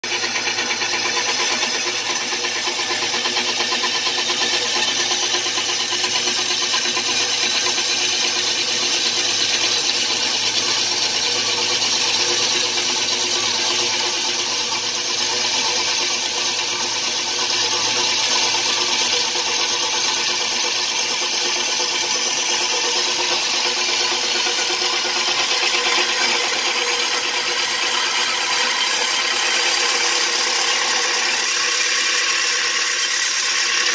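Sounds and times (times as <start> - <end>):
bandsaw cutting steel: 0.0 - 33.9.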